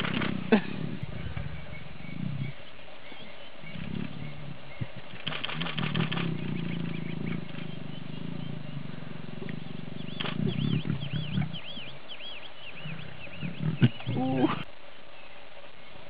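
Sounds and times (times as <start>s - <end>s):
lion growling: 0.0s - 2.6s, 3.6s - 14.7s.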